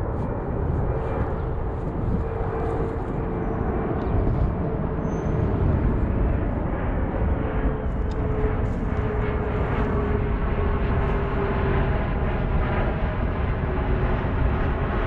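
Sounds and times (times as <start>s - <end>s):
airplane engine drone: 0.0s - 15.0s.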